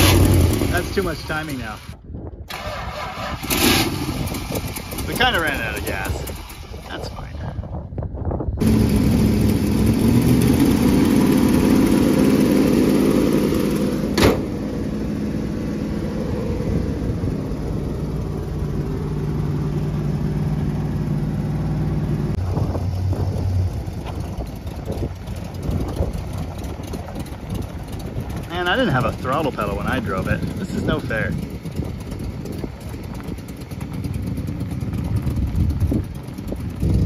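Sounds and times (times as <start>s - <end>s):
car engine idling: 0.0s - 2.7s, 8.6s - 37.0s.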